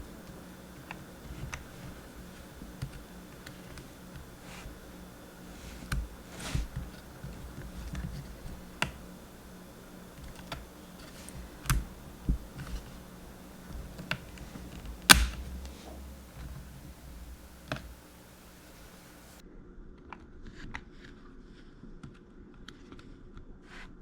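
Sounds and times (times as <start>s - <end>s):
clicks of memory stick inserted: 0.0s - 19.4s.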